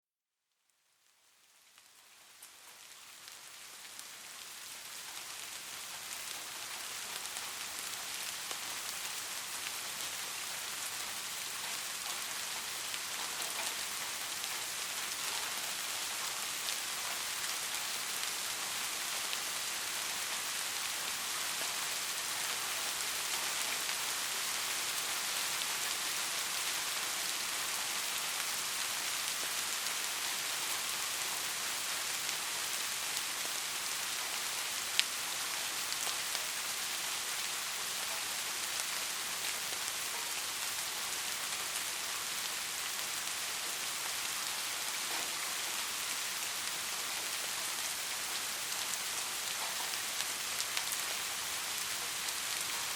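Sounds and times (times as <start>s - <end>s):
steady rain falling: 0.5s - 52.9s.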